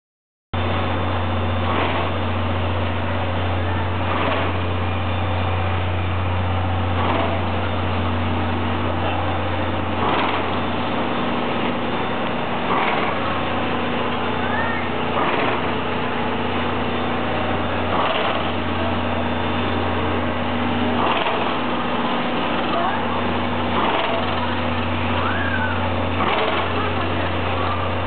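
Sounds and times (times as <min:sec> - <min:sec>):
low hum: 0:00.6 - 0:28.0.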